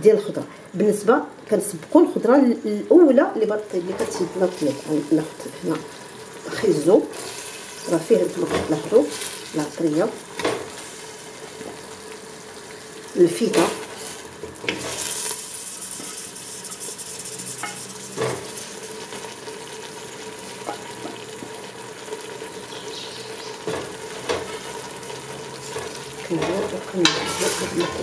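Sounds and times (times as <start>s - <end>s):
vegetables sizzling in oil: 0.0s - 28.0s.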